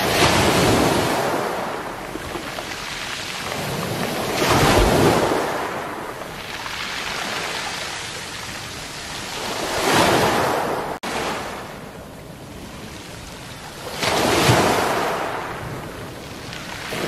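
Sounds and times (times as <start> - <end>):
waves breaking on pebble beach: 0.0 - 11.7, 12.5 - 17.0.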